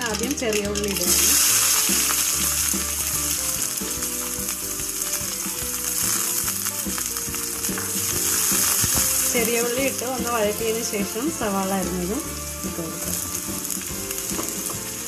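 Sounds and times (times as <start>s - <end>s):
shallots sizzling in oil: 0.0s - 15.0s.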